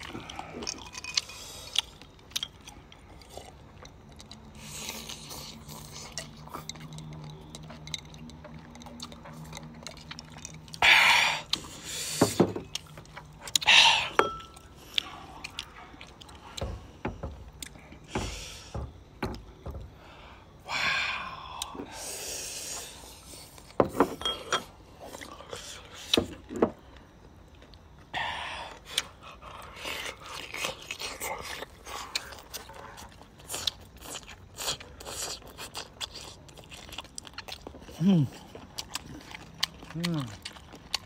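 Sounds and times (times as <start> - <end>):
wet chewing and mouth clicks: 0.0 - 19.6, 24.9 - 41.0.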